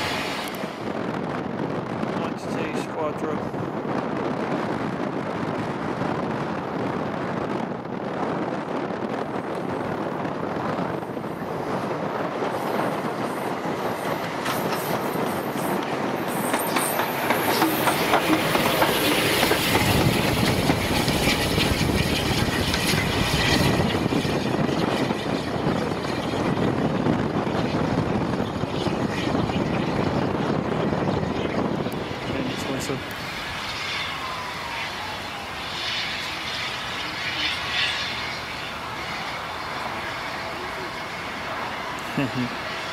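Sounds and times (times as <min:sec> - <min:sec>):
steam train passing: 0:00.0 - 0:42.9.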